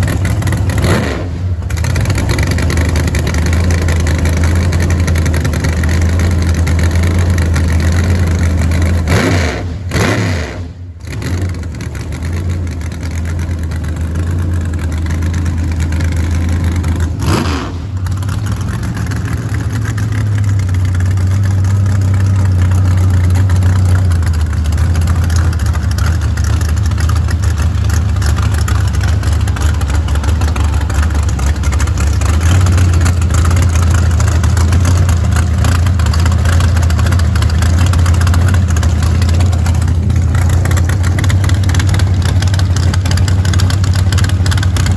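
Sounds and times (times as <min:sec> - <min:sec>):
vehicle engine idling: 0:00.0 - 0:44.9.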